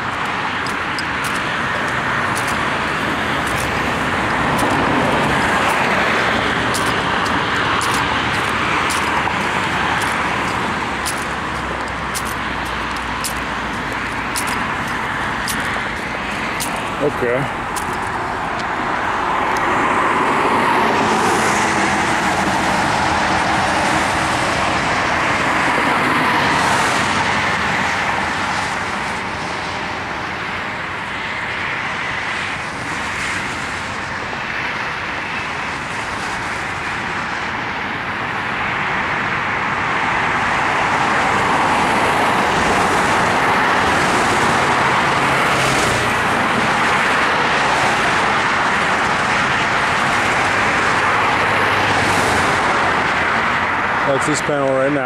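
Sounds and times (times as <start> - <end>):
road traffic noise: 0.0 - 55.0.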